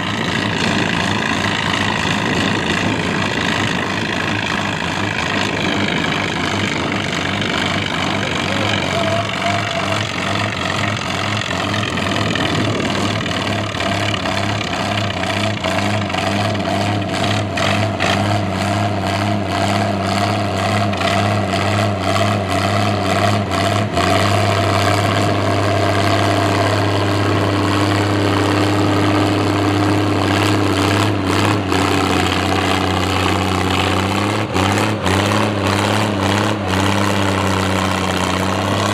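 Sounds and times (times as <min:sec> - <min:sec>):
tractor engine running hard: 0:00.0 - 0:38.9.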